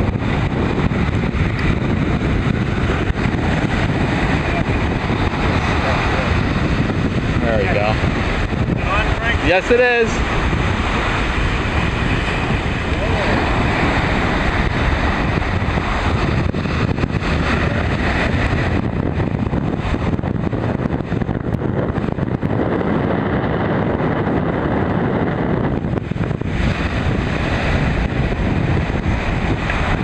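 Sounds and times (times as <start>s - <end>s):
waves breaking on beach: 0.0s - 22.4s, 25.6s - 30.0s
wind buffeting microphone: 0.0s - 30.0s.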